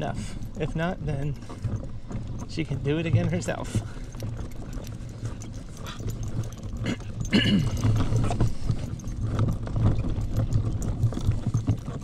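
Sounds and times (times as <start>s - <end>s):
light clicks and jangling: 0.0s - 12.0s
stroller wheels rumbling on pavement: 0.0s - 12.0s.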